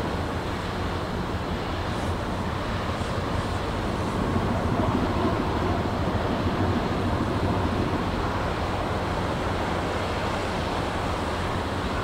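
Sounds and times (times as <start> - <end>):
propellers churning water: 0.0 - 12.0
wind buffeting microphone: 0.0 - 12.0.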